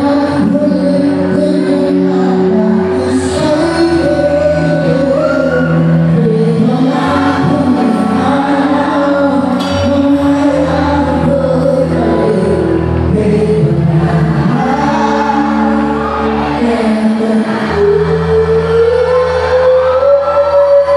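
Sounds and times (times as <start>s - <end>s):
electric guitar: 0.0s - 20.9s
person singing: 0.0s - 20.9s.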